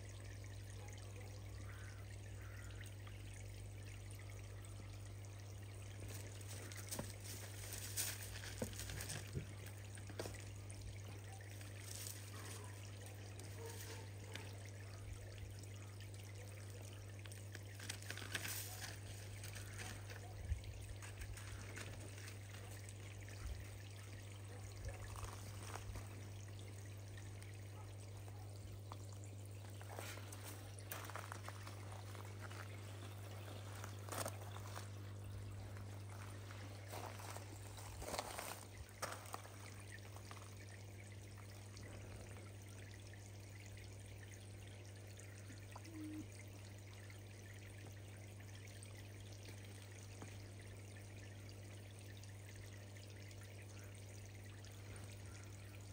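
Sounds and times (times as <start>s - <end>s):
low steady hum: 0.0s - 55.9s
small water splashes: 0.0s - 55.9s
water pouring into a pond: 0.0s - 55.9s.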